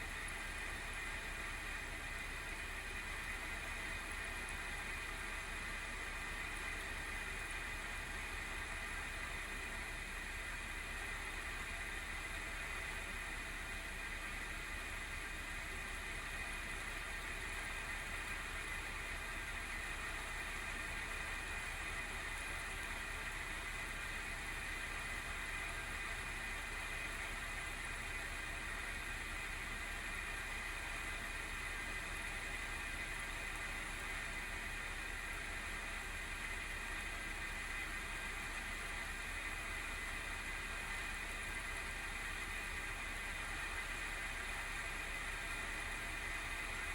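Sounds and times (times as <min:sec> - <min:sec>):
faint steady tones: 0:00.0 - 0:46.9
graphics card fan whirring: 0:00.0 - 0:46.9.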